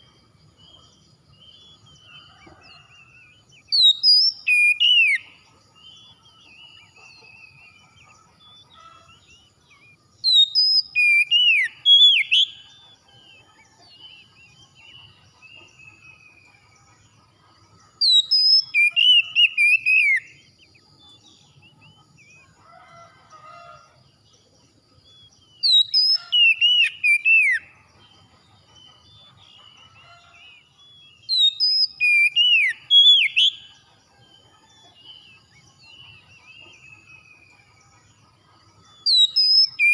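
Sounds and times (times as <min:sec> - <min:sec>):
faint bird chirps: 0:00.0 - 0:39.9
bird whistled song: 0:00.7 - 0:17.1, 0:17.9 - 0:22.5, 0:25.1 - 0:38.1, 0:38.8 - 0:39.9.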